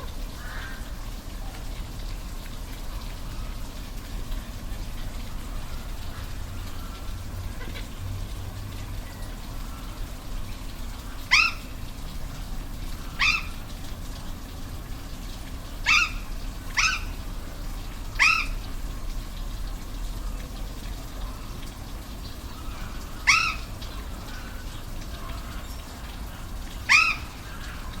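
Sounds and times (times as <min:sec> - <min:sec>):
waterfall: 0:00.0 - 0:28.0.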